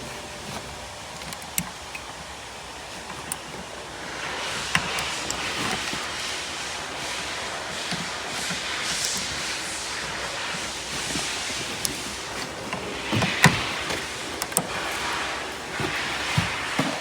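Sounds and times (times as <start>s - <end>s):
plastic connectors clicking: 0.0s - 6.4s, 7.2s - 17.0s
wiring harness rustling: 0.0s - 17.0s.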